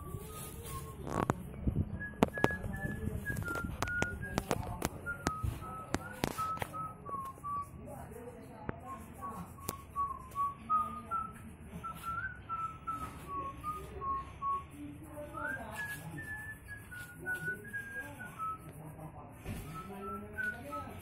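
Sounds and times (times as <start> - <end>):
person whistling a tune: 1.8 - 7.8, 9.2 - 18.6, 19.6 - 21.0.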